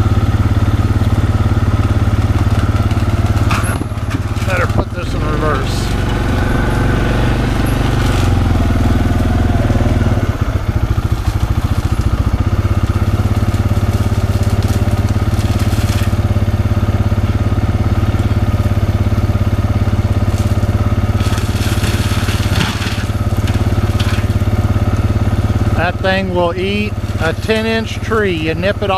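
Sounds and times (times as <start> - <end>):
diesel engine running hard: 0.0 - 28.9
mulcher crunching brush: 0.0 - 28.9.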